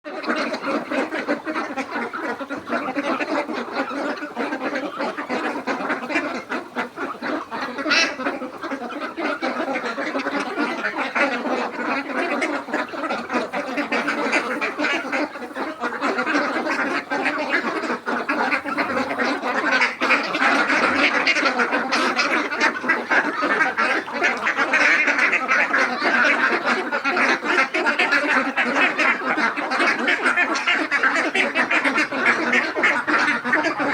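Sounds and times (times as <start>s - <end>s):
ducks quacking: 0.1s - 33.9s.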